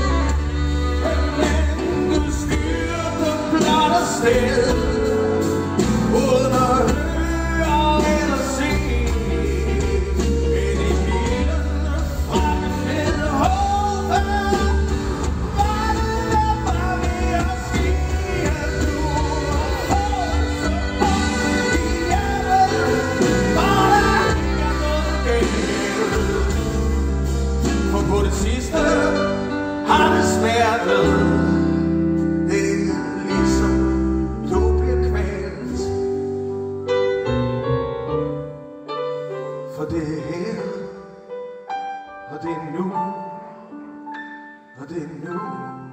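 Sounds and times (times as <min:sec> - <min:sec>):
man singing: 0:00.0 - 0:36.5, 0:39.1 - 0:41.3, 0:42.2 - 0:43.8, 0:44.6 - 0:45.9
live band music: 0:00.0 - 0:45.9.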